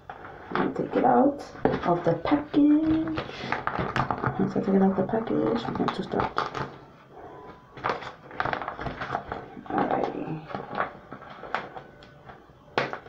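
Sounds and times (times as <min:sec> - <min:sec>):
plastic packaging crinkling: 0:01.7 - 0:06.9, 0:07.6 - 0:13.0.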